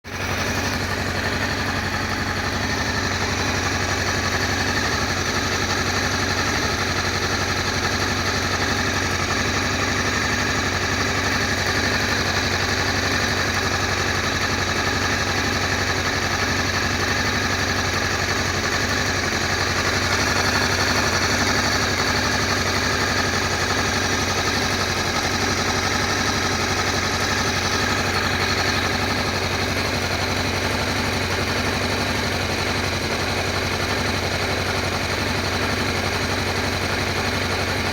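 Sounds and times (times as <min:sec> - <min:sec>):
motorcycle engine idling: 0:00.0 - 0:37.9
fast even ticking rattle: 0:00.1 - 0:37.9.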